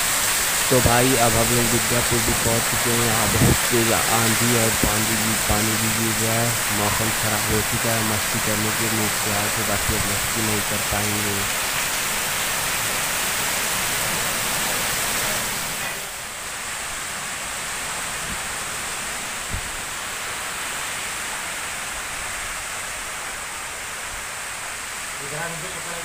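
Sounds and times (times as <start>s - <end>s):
heavy rain in strong wind: 0.0s - 26.0s.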